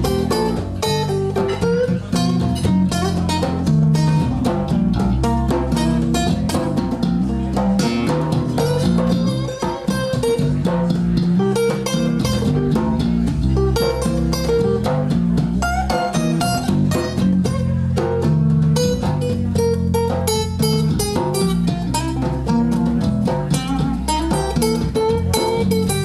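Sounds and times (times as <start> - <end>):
plucked guitar lines: 0.0 - 26.0
steady percussion: 0.0 - 26.0
walking bass: 0.0 - 26.0.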